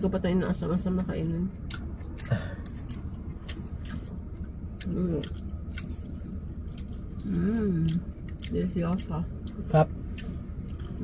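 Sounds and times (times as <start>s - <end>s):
car engine hum: 0.0s - 11.0s
people chewing food: 1.5s - 11.0s.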